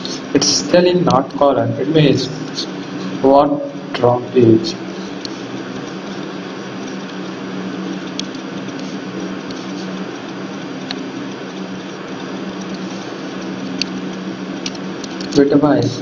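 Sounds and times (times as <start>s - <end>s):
room noise hum and hiss: 0.0s - 16.0s.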